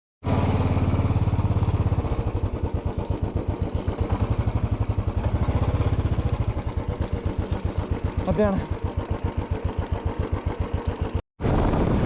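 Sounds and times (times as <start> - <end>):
motorcycle engine running: 0.2 - 12.0.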